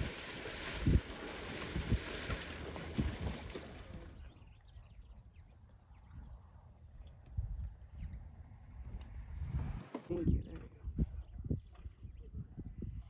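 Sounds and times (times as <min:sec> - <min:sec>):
wind buffeting microphone: 0:00.0 - 0:05.1, 0:07.2 - 0:13.0.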